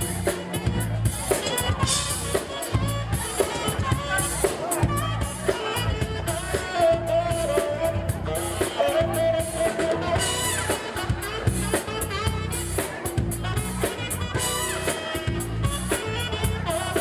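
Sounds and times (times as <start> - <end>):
band playing disco-funk music: 0.0 - 17.0.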